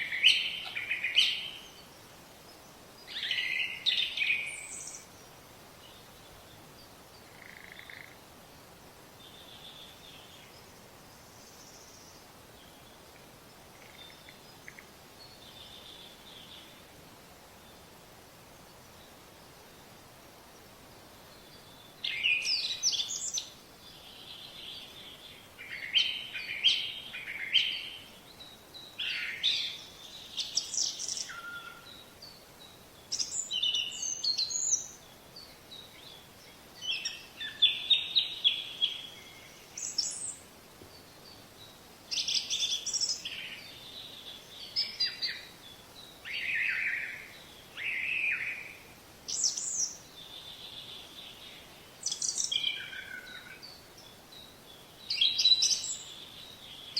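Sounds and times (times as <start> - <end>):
small songbirds chirping: 0.0 - 56.9.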